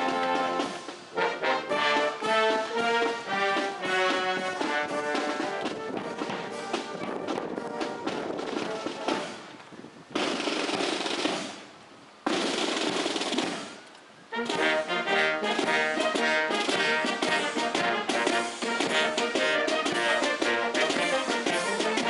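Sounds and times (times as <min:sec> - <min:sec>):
military band with brass playing: 0:00.0 - 0:11.7, 0:12.3 - 0:22.0.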